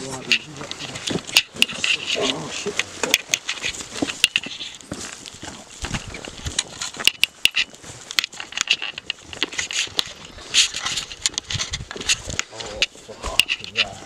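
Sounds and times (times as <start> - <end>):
footsteps crunching on dirt path: 0.0 - 14.0
leaves and branches brushing: 0.0 - 14.0.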